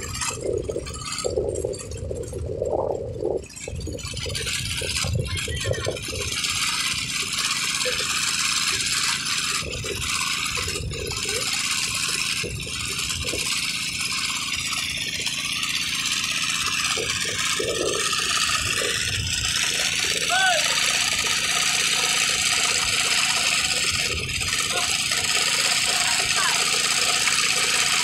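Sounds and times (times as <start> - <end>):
drill pipe rattling and scraping: 0.0 - 28.0
drilling rig running: 0.0 - 28.0.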